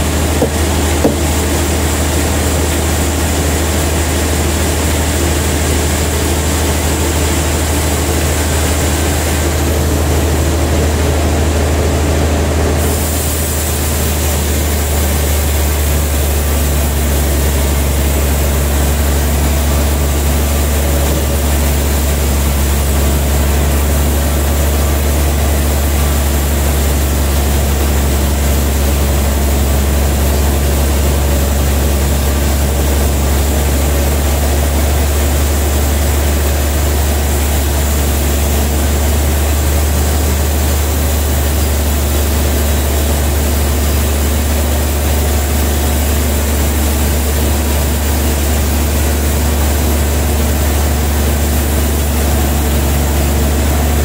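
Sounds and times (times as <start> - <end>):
band sawmill humming: 0.0 - 54.0.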